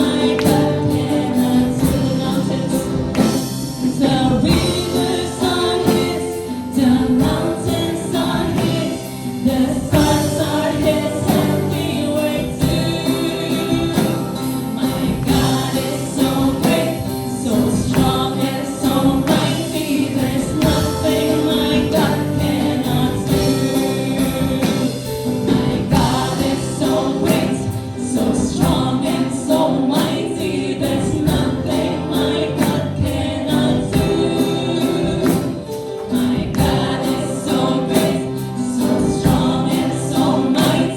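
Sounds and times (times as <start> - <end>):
band accompaniment: 0.0 - 40.9
group singing worship song: 0.0 - 40.9.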